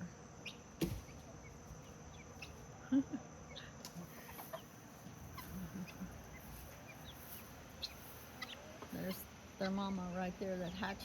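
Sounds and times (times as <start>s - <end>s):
chicks chirping: 0.4s - 11.0s
hen clucking: 0.4s - 11.0s.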